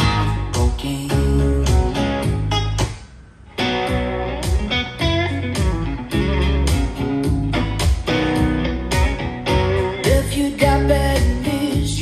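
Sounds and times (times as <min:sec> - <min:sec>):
blues song over speaker: 0:00.0 - 0:12.0.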